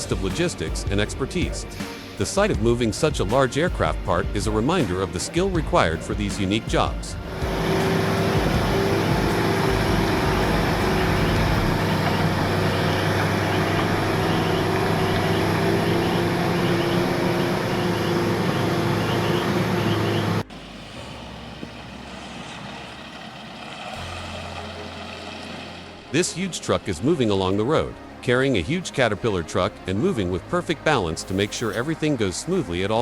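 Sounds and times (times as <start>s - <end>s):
dull vehicle sound: 0.0s - 33.0s
truck diesel engine running: 0.0s - 33.0s.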